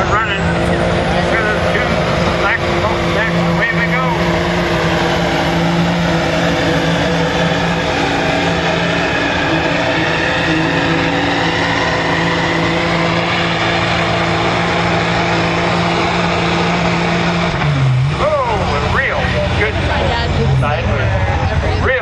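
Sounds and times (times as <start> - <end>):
diesel engine running flat out: 0.0 - 22.0.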